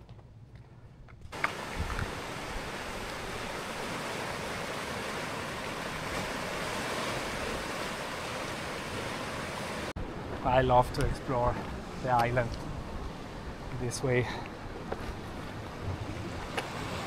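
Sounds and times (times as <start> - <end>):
wind: 0.0 - 17.0
sea surf rushing: 1.3 - 17.0.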